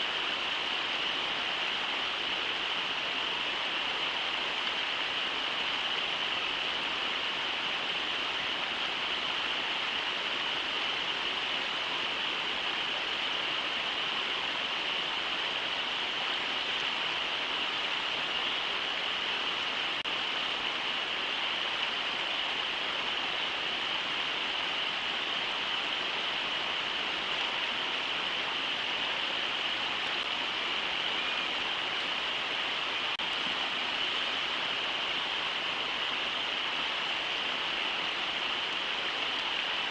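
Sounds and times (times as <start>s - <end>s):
river water over rapids: 0.0s - 39.9s.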